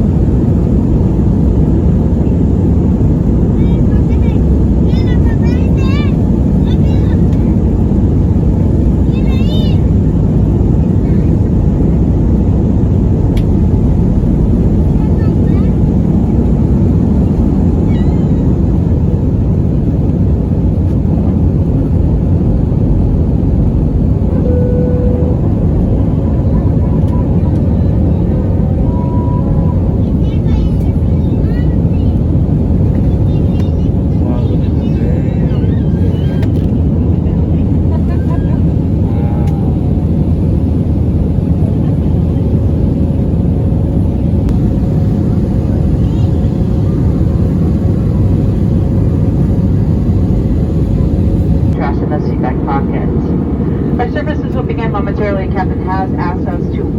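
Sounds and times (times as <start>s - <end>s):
jet engines and airflow rushing: 0.0s - 56.9s.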